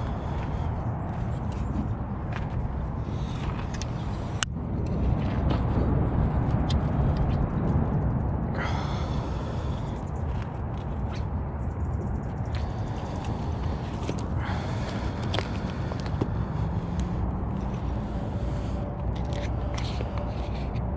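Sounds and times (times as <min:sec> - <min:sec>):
wind rumble on microphone: 0:00.0 - 0:20.9.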